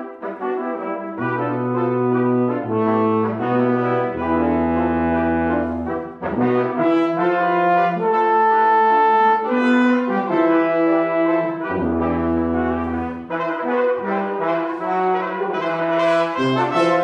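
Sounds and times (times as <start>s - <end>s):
brass quintet playing chords: 0.0s - 17.0s
low tuba notes: 0.0s - 17.0s.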